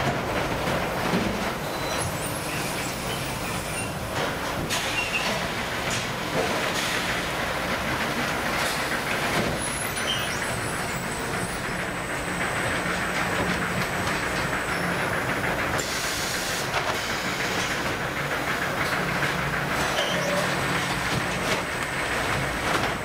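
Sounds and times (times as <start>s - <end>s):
machine rattle and hum: 0.0s - 23.0s.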